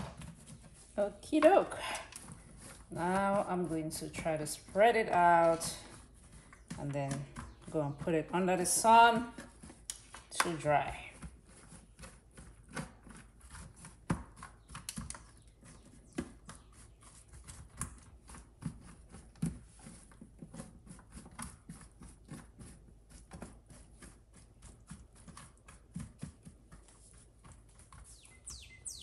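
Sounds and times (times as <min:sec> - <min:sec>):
leaves rustling on a baking tray: 0:00.0 - 0:29.0.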